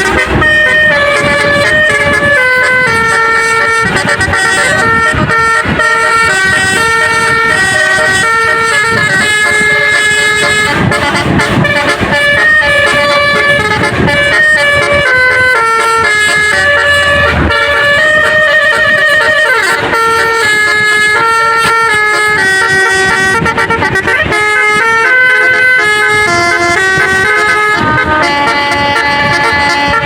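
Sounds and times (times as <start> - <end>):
bus air horn playing melody: 0.0 - 30.0.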